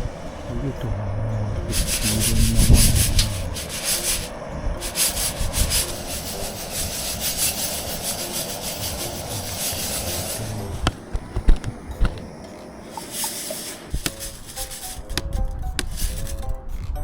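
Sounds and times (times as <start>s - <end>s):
coffee beans rustling and scraping: 1.6s - 16.8s.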